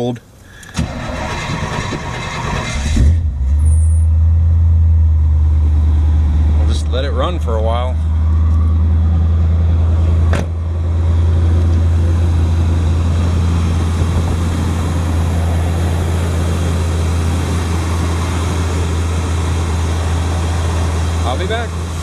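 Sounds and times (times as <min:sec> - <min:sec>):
truck engine idling: 0:00.3 - 0:22.0.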